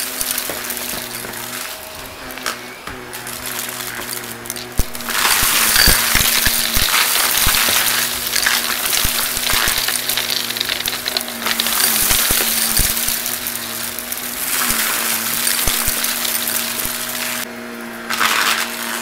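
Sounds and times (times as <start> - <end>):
debris clicking and rattling: 0.0 - 17.5, 18.1 - 19.0
upright vacuum running: 0.0 - 19.0.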